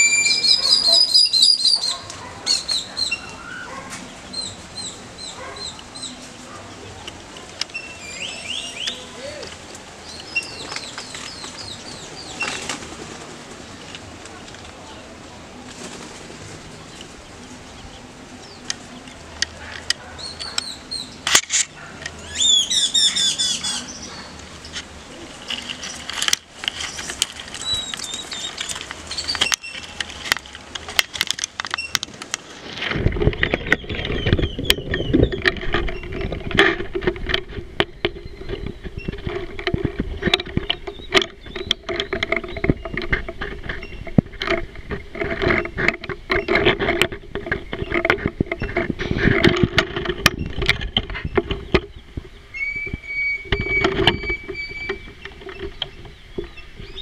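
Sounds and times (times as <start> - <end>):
small birds chirping and warbling: 0.0 - 30.2, 33.1 - 57.0.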